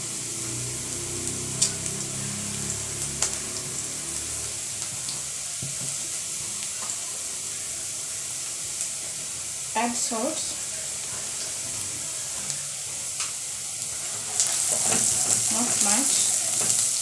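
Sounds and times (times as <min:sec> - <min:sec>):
onions sizzling in a pot: 0:00.0 - 0:17.0.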